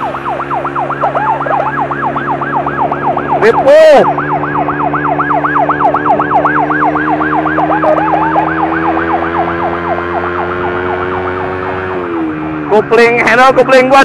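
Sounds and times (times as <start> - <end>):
electronic siren yelping: 0.0 - 12.6
engine drone: 0.0 - 14.0.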